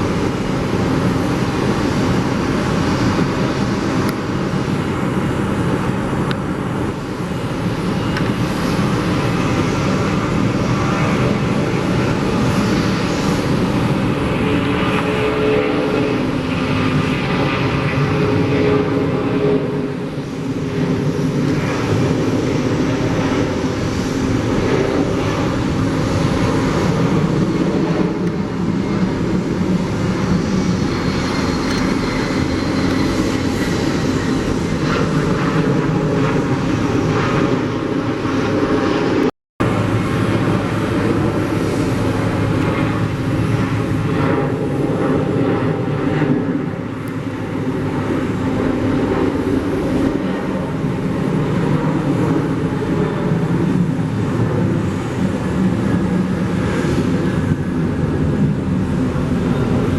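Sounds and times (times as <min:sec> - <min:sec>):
jet airliner engine rush: 0:00.0 - 0:59.9.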